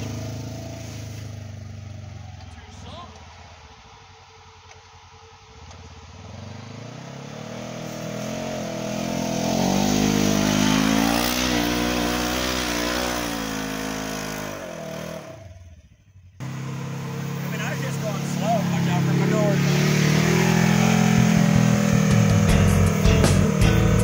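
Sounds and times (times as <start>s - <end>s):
tyres churning snow: 0.0s - 24.0s
utility vehicle engine working hard: 0.0s - 24.0s.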